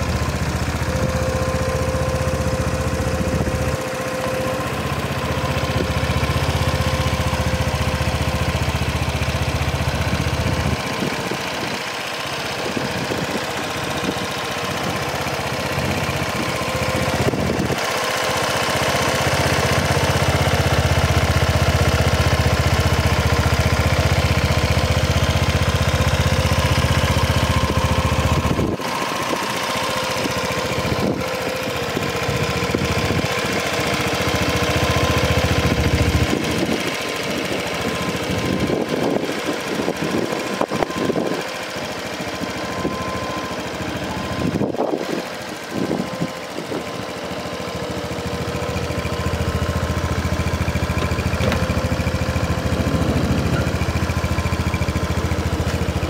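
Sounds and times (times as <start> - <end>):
scooter engine idling: 0.0 - 56.0.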